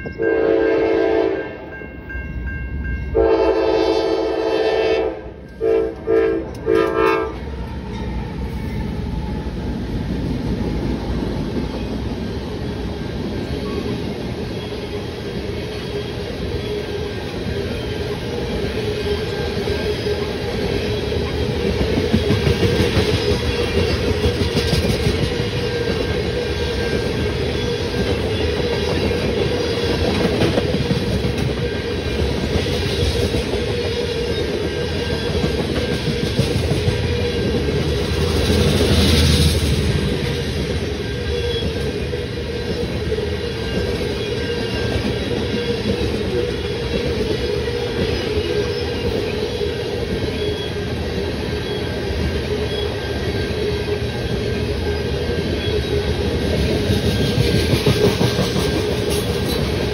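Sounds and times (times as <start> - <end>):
steel wheels rumbling on rail: 0.0 - 59.9.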